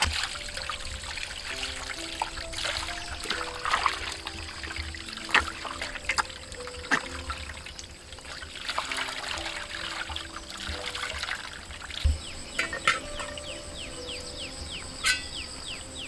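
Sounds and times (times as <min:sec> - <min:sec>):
water trickling and splashing: 0:00.0 - 0:15.7.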